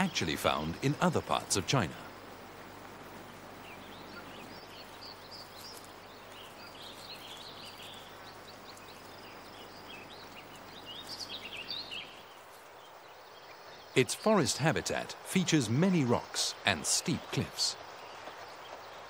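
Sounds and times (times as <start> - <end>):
background hiss: 0.0 - 19.0
small birds chirping: 0.0 - 19.0.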